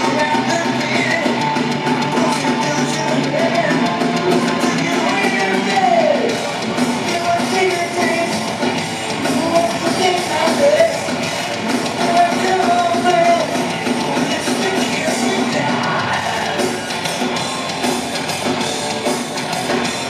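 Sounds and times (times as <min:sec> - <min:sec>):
live thrash metal band: 0:00.0 - 0:20.0.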